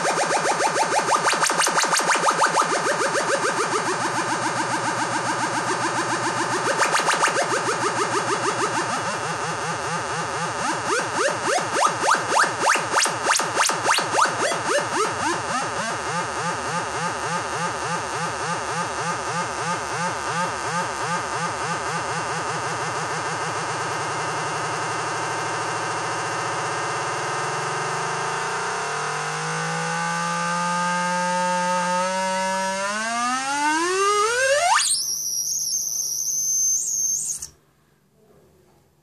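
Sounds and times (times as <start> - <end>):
buzzy warbling electronic tone: 0.0 - 24.2, 29.1 - 37.5.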